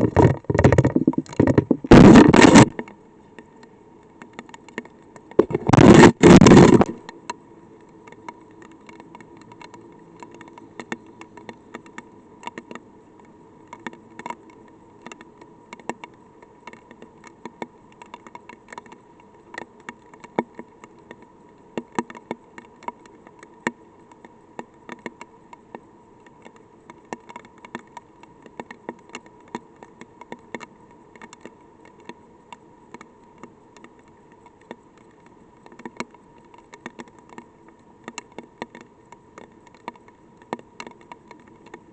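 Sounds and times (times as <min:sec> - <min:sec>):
faint electronic hum: 0:00.0 - 0:41.9
raindrops ticking on microphone: 0:00.0 - 0:41.9.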